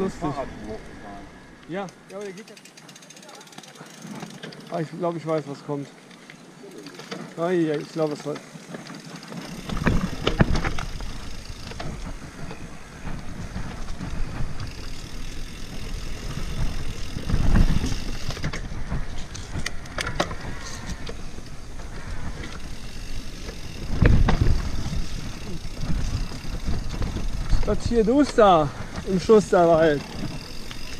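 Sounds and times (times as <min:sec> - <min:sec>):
bike rattling and clicking: 0:00.0 - 0:30.9
bike tyres rumbling over dirt: 0:02.6 - 0:30.9.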